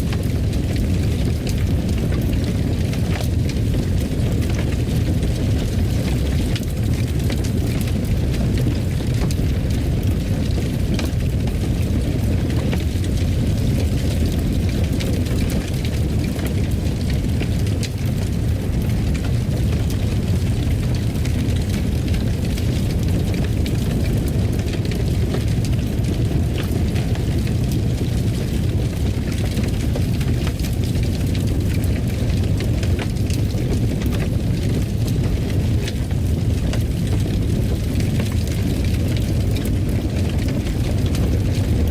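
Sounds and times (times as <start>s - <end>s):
fire crackling in fireplace: 0.0s - 41.9s.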